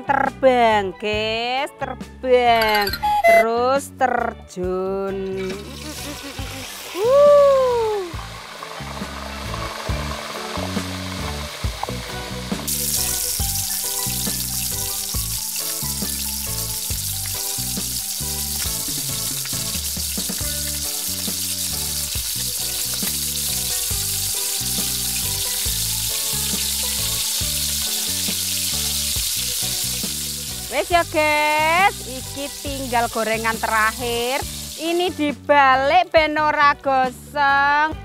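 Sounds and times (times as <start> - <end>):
background music with low notes: 0.0 - 38.0
fish sizzling in hot oil: 5.3 - 35.8.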